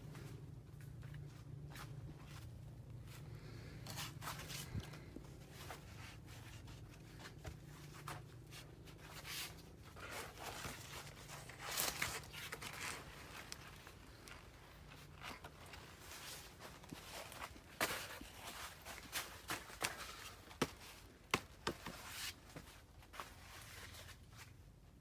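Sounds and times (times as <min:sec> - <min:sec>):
faint low hum: 0:00.0 - 0:25.0
rustling and crunching strokes: 0:00.0 - 0:25.0.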